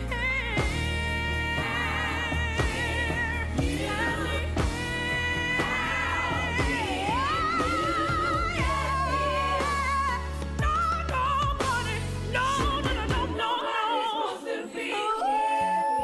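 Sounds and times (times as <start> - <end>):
pop song bass and beat: 0.0 - 13.9.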